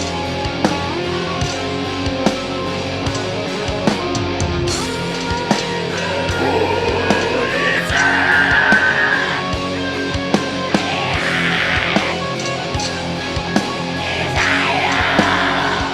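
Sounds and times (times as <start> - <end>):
live metal band playing: 0.0 - 15.9.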